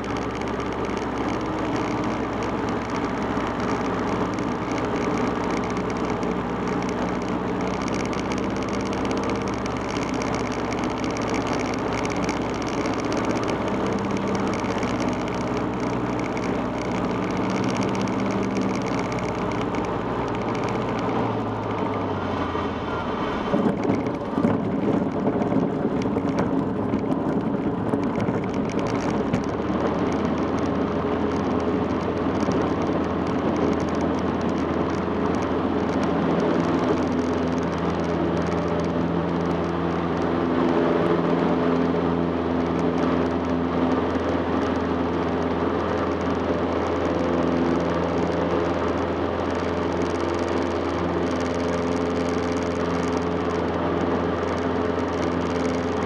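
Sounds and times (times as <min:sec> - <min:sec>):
airplane engine and propeller: 0:00.0 - 0:56.0
wheels rattling on runway: 0:00.0 - 0:56.0.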